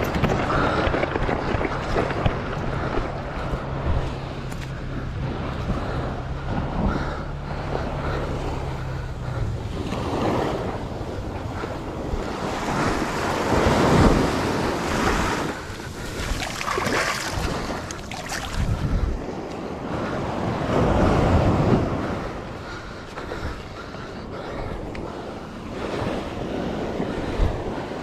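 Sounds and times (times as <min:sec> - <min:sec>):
ocean surf breaking on beach: 0:00.0 - 0:28.0
wind buffeting microphone: 0:00.0 - 0:28.0.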